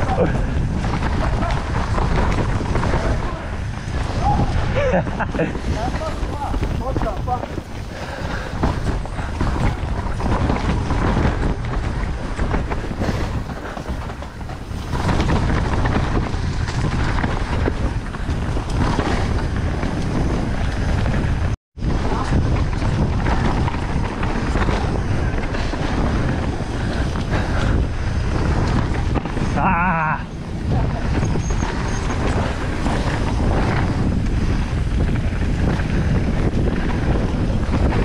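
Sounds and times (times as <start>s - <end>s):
bike tyres rumbling and rattling: 0.0s - 38.0s
wind buffeting microphone: 0.0s - 38.0s.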